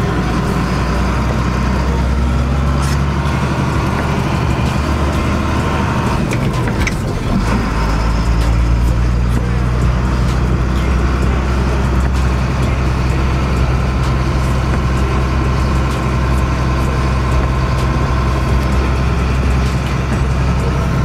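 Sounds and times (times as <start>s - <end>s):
truck engine droning: 0.0s - 21.0s
tyre and road noise: 0.0s - 21.0s.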